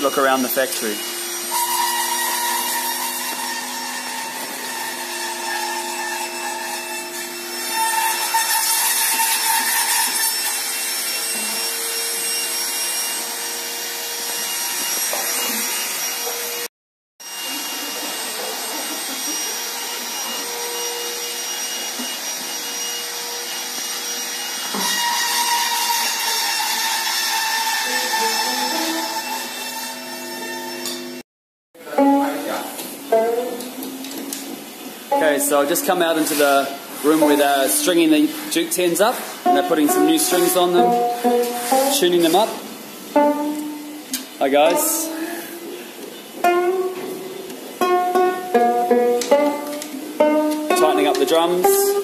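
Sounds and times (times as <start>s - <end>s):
workshop machine whirring: 0.0s - 31.2s, 32.4s - 52.0s.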